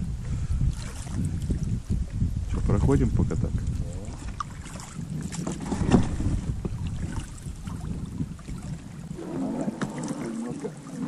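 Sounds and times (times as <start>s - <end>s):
water rippling past boat: 0.0s - 11.0s
wind buffeting microphone: 0.0s - 11.0s.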